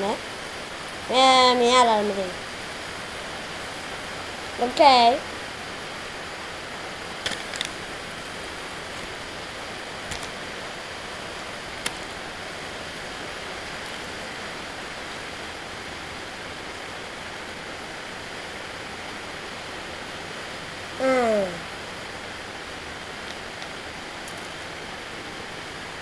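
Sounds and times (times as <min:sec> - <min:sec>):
room noise hiss: 0:00.0 - 0:26.0.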